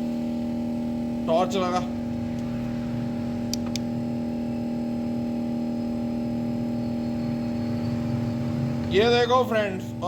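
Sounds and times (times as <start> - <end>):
smoke machine humming: 0.0 - 10.0.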